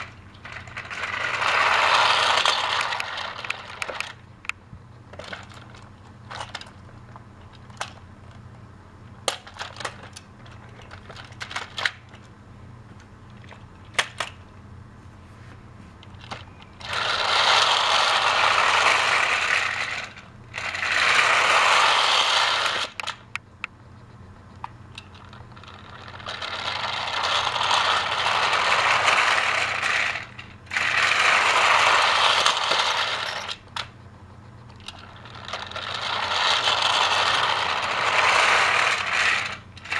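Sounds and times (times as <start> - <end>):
toy train motor rattling: 0.0 - 6.8, 9.2 - 12.3, 16.0 - 23.4, 24.5 - 39.9.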